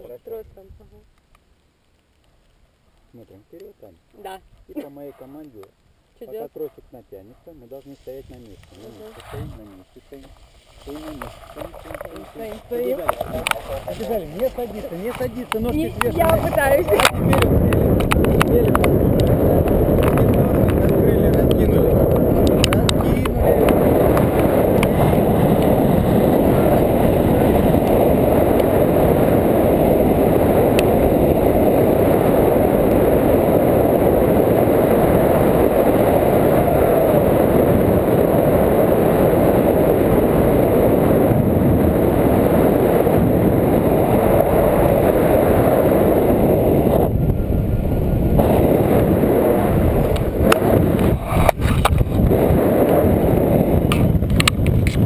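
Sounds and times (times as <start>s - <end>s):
wind buffeting microphone: 6.5s - 55.0s.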